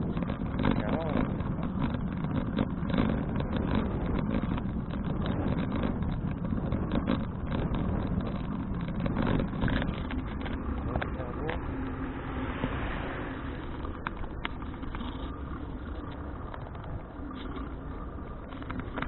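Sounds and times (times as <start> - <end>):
bicycle clicks and rattles: 0.0 - 19.0
road rumble: 0.0 - 19.0
wind buffeting microphone: 0.0 - 19.0.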